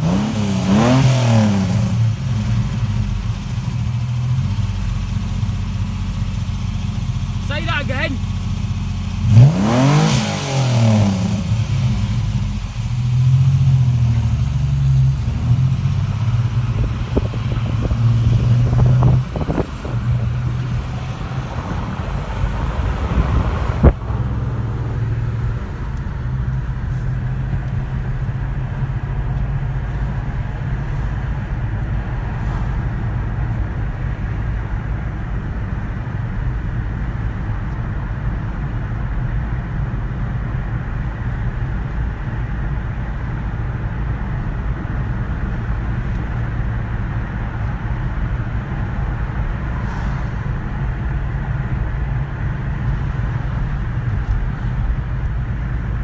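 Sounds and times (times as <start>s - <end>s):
car engine revving and idling: 0.0s - 56.0s.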